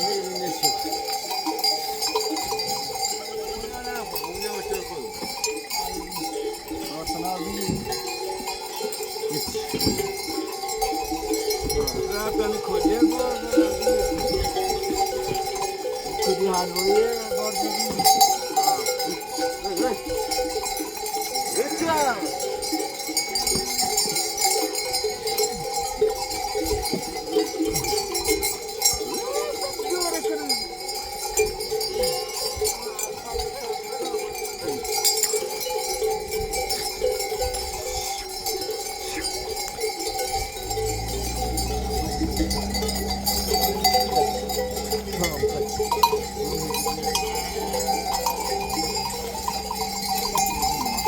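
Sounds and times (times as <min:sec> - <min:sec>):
animal bells clanking: 0:00.0 - 0:51.0.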